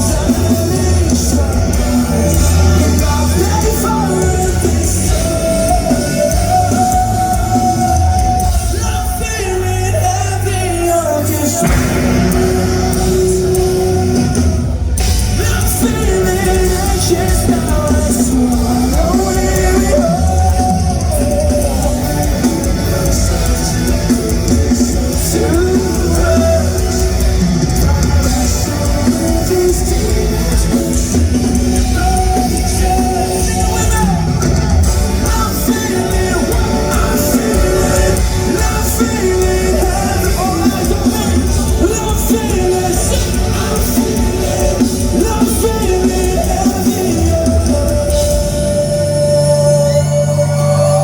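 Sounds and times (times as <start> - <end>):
distorted electric guitars: 0.0 - 51.0
drums: 0.0 - 51.0
heavy bass: 0.0 - 51.0
person singing: 0.0 - 51.0
rock band playing live: 0.0 - 51.0.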